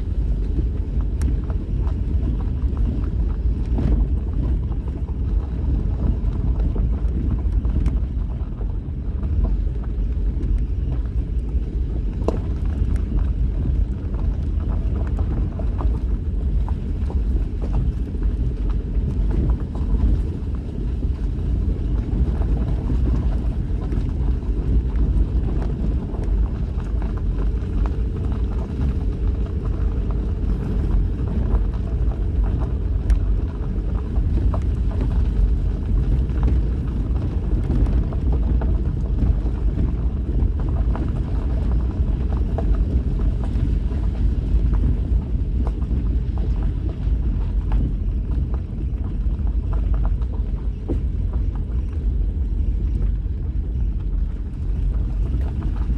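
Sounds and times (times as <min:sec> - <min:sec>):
engine and tyres rumbling: 0:00.0 - 0:55.9.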